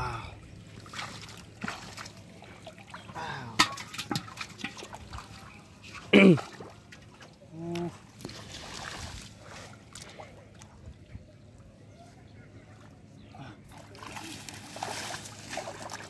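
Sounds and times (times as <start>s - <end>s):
muddy water splashing: 0.6s - 11.8s, 12.5s - 16.0s.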